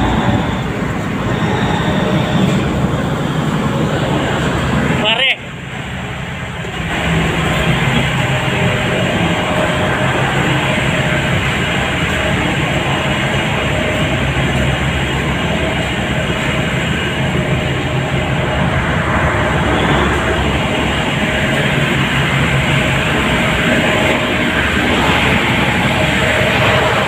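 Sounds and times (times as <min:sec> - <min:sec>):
ship diesel engines droning: 0:00.0 - 0:27.0.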